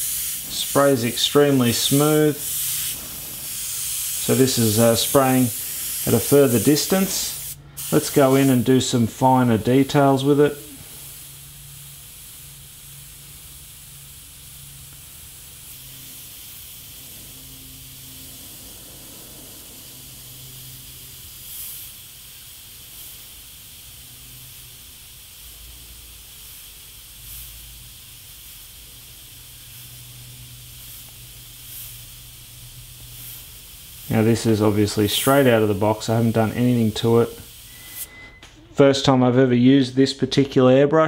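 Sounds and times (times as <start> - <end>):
airbrush hissing: 0.0 - 38.3.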